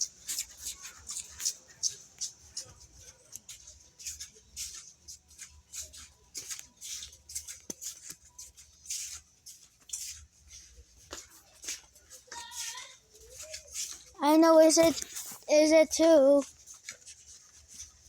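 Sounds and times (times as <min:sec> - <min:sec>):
rustling and scuffing: 0:00.0 - 0:18.0.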